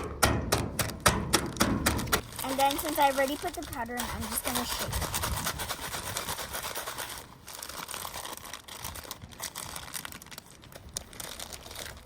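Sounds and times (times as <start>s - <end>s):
dry noodle pieces rattling: 2.0s - 12.0s
plastic bag crinkling: 2.0s - 12.0s.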